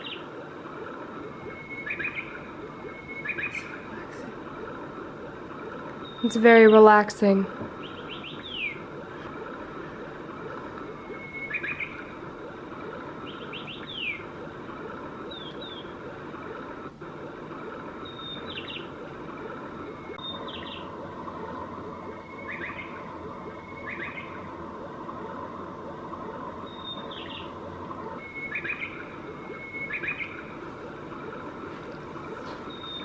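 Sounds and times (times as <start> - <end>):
recorded birdsong chirps: 0.0 - 33.0
steady rushing background: 0.0 - 33.0.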